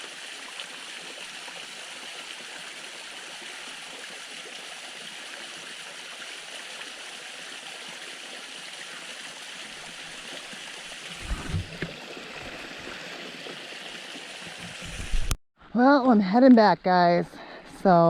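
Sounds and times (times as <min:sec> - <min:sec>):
small waterfall splashing: 0:00.0 - 0:15.3.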